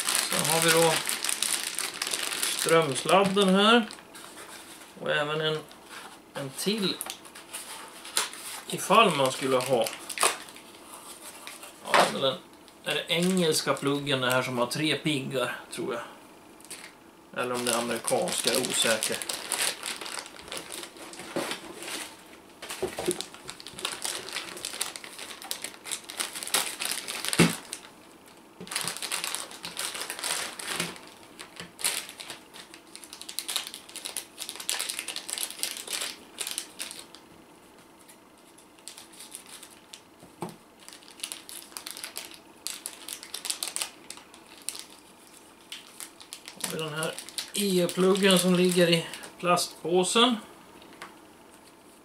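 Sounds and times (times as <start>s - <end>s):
plastic bag crinkling: 0.0s - 4.8s, 5.6s - 12.2s, 16.6s - 37.2s, 38.5s - 40.0s, 40.8s - 49.4s.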